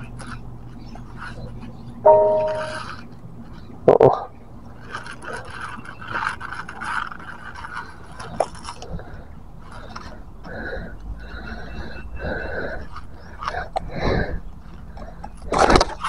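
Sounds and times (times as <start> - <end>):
scraping and rustling of hands and fish: 0.0 - 3.8, 4.5 - 16.0.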